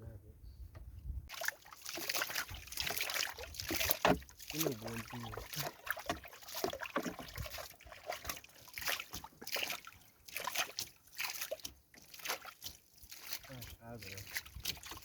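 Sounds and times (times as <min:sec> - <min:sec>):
water sloshing and splashing: 0:01.2 - 0:15.0.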